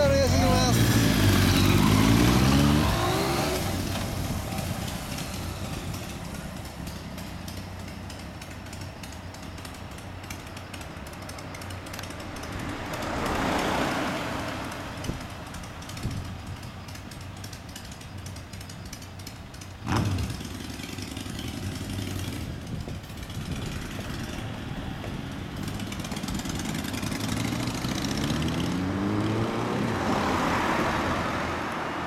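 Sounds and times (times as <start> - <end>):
motorcycle engine revving away: 0.0 - 15.1, 19.8 - 31.7
motorcycle engines idling: 0.0 - 28.6.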